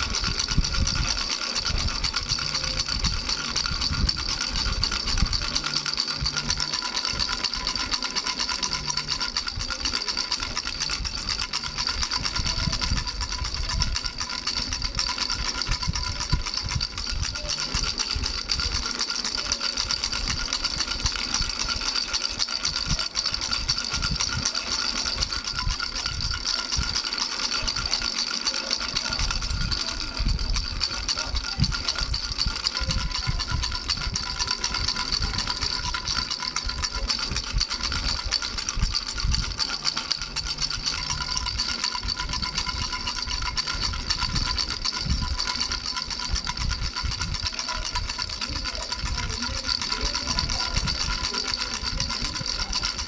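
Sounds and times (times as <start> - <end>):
baby rattle with bells shaken: 0.0 - 53.0.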